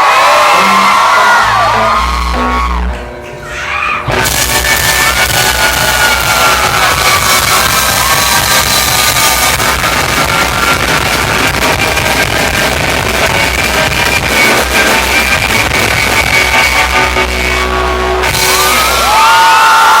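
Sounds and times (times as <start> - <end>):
crowd shouting: 0.0 - 13.6, 15.1 - 20.0
loud rock music with guitar: 0.1 - 20.0.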